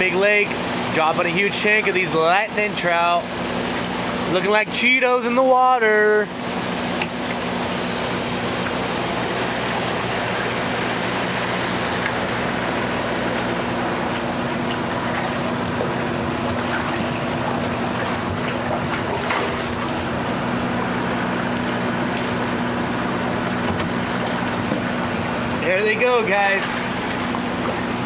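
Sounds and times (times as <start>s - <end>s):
low mechanical hum: 0.0s - 28.0s
water gushing from tank: 0.0s - 28.0s.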